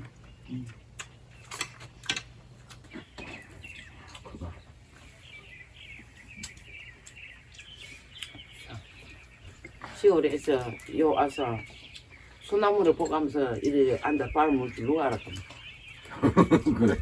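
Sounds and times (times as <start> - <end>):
small birds twittering: 2.8 - 17.0.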